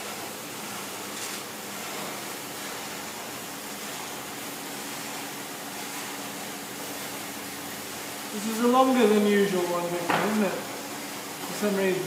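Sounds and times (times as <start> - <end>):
wallpaper machine hissing: 0.0 - 12.0.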